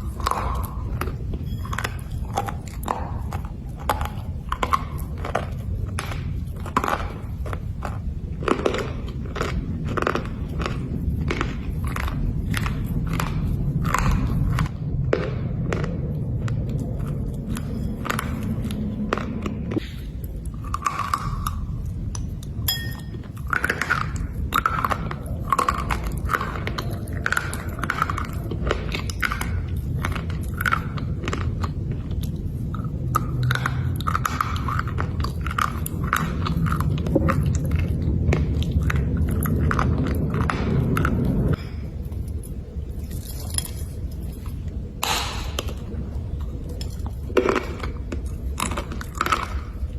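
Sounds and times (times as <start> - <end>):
slate being chewed with crunches: 0.0 - 49.9.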